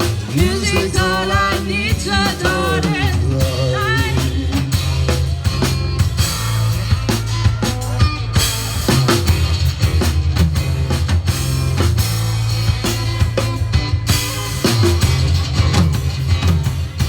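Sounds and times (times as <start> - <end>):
bass line: 0.0 - 17.0
drum kit steady beat: 0.0 - 17.0.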